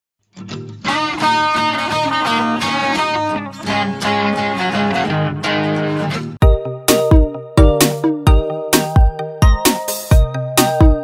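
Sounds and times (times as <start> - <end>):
plucked guitar music: 0.2 - 11.0.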